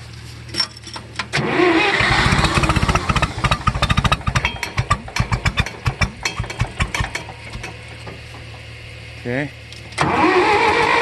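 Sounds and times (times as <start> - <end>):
tractor engine cranking and chugging: 0.0 - 11.0.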